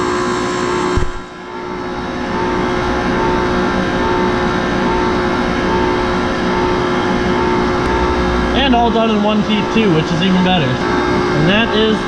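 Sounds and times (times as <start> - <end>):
hydraulic press motor and pump drone: 0.0 - 12.0.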